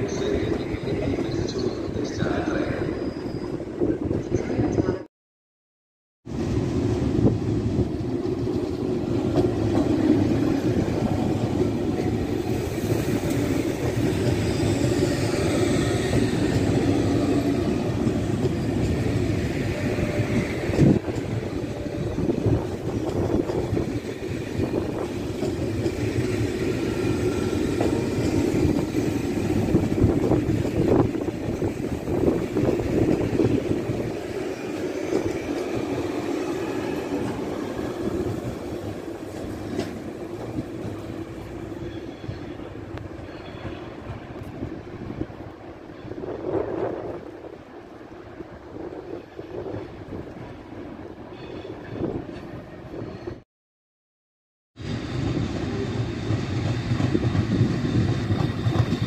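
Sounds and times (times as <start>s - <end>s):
train rail rumble: 6.3s - 53.4s, 54.8s - 59.0s.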